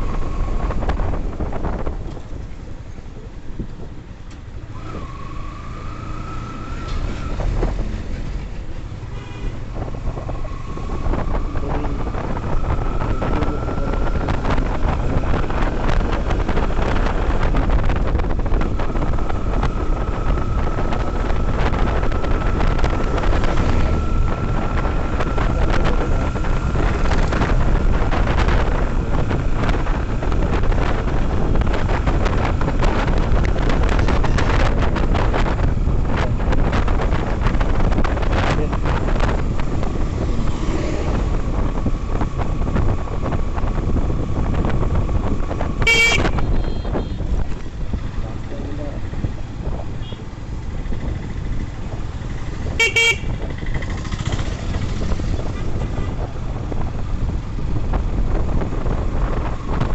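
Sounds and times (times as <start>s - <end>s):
wind rushing on microphone: 0.0s - 59.9s
motorcycle engine: 4.4s - 59.9s.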